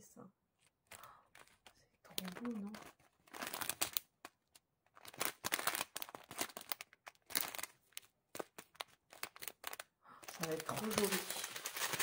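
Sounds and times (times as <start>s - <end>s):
plastic bags crinkling: 0.6s - 12.0s.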